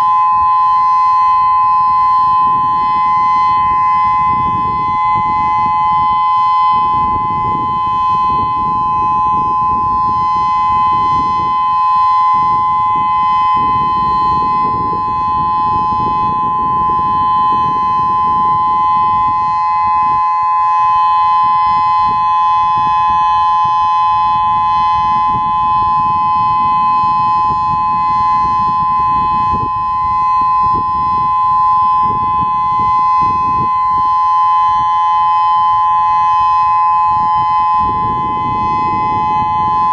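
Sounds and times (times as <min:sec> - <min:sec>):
warning siren dual tone: 0:00.0 - 0:39.9.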